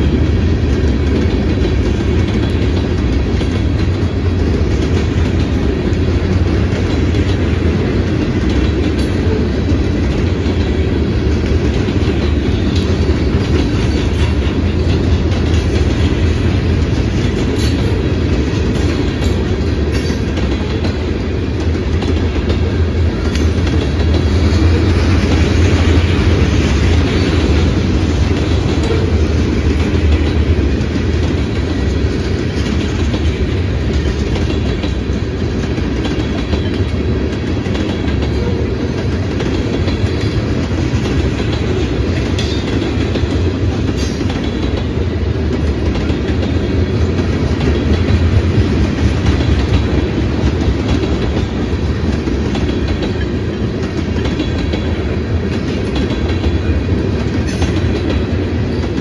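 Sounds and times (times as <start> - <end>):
freight train wheels on track: 0.0 - 59.0.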